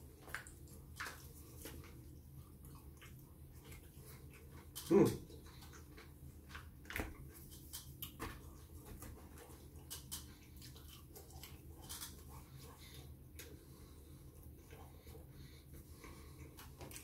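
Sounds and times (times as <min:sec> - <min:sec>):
person chewing: 0:00.1 - 0:15.1.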